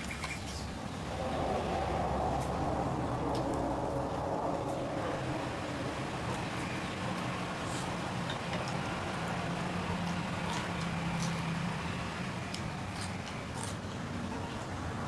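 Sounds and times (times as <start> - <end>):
steady low hum: 0.4 - 13.6.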